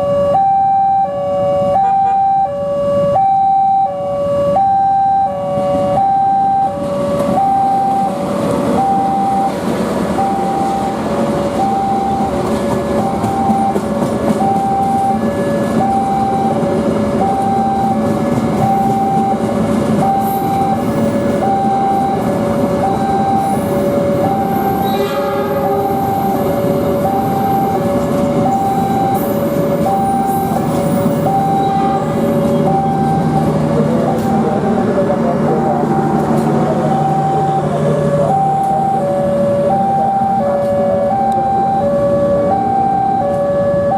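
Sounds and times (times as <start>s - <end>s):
level-crossing alarm alternating tones: 0.0s - 43.9s
train rumbling past: 6.6s - 43.9s.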